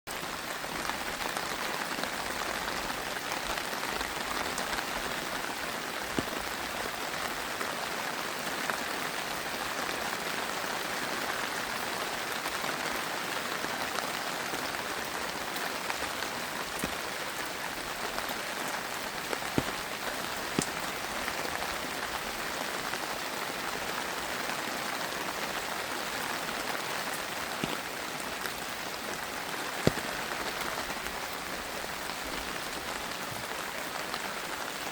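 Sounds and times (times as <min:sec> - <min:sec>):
rain pattering on leaves: 0:00.1 - 0:34.9.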